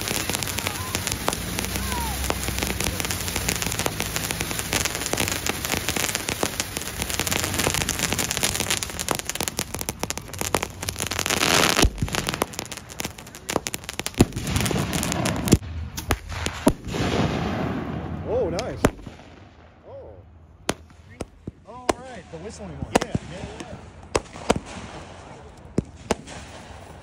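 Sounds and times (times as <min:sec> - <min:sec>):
firework pops and cracks: 0:00.0 - 0:17.9, 0:18.5 - 0:19.4, 0:20.6 - 0:22.2, 0:22.8 - 0:27.0
firework crackling sparks: 0:00.0 - 0:19.5, 0:20.7 - 0:27.0.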